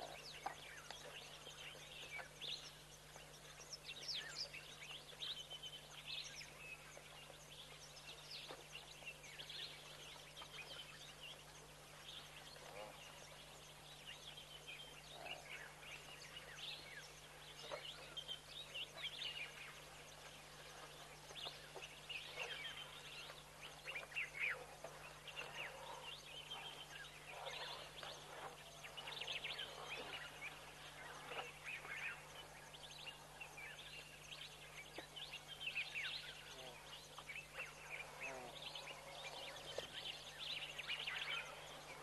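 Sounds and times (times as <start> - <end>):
faint low hum: 0.0 - 42.0
wild birds calling and chirping: 0.0 - 42.0.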